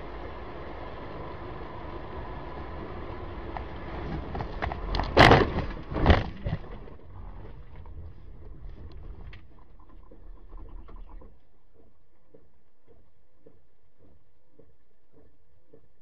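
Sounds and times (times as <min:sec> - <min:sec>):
road and engine noise: 0:00.0 - 0:16.0.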